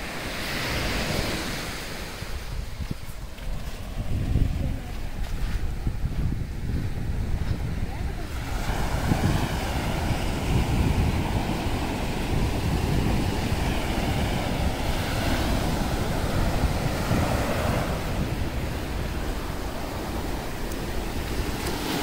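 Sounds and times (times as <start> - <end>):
sea surf breaking on sand: 0.0 - 22.0
wind buffeting microphone: 0.0 - 22.0.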